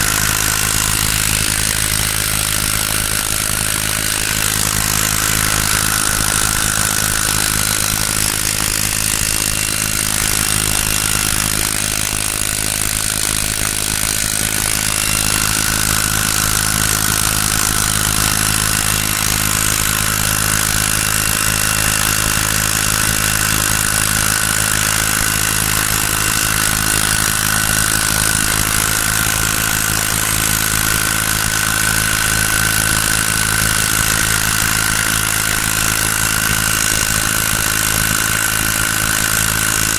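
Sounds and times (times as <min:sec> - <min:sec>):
small boat motor running: 0:00.0 - 0:39.9.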